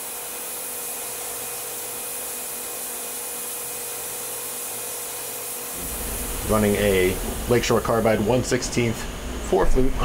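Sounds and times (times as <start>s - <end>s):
milling machine hiss and whine: 0.0s - 10.0s.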